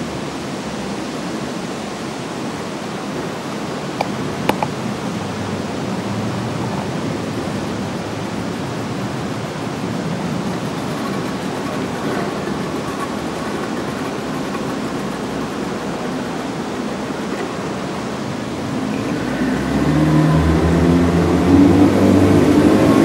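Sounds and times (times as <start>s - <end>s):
boat motor and water rushing: 0.0s - 23.0s.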